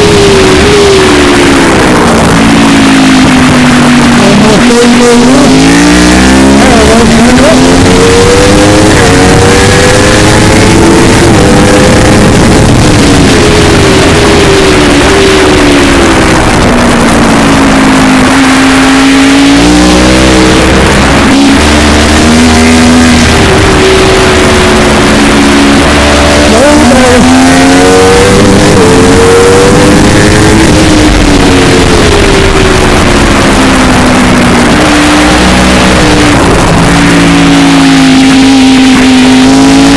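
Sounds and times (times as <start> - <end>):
vehicle engine revving: 0.0 - 39.9
wind noise on microphone: 0.0 - 39.9.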